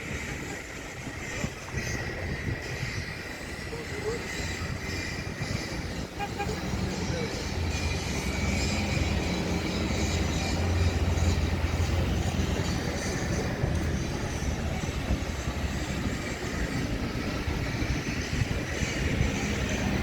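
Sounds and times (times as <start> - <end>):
city traffic rumble: 0.0 - 20.0
construction site noise: 0.0 - 20.0.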